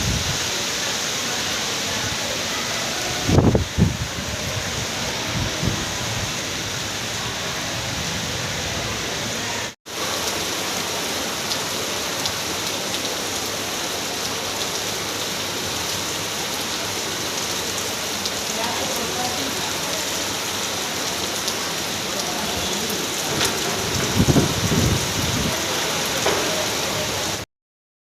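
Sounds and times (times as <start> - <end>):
heavy rain hissing: 0.0 - 27.4.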